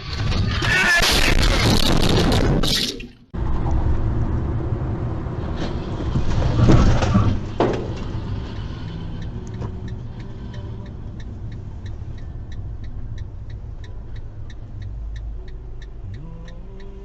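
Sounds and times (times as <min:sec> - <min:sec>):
vehicle rumbling on road: 0:00.0 - 0:17.0.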